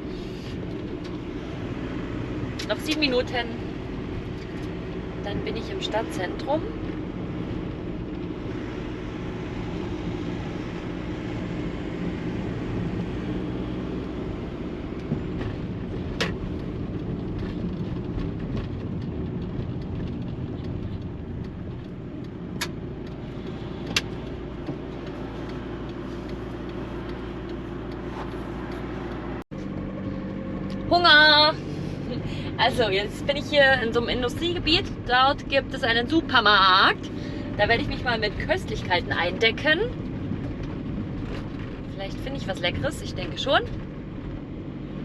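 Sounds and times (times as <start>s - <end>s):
van engine and road noise: 0.0s - 45.0s.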